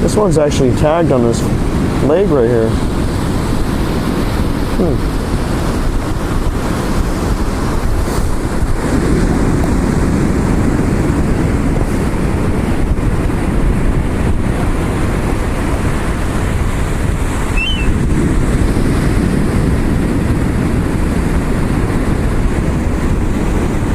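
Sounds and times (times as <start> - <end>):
surf washing on beach: 0.0 - 23.9
wind buffeting microphone: 0.0 - 23.9.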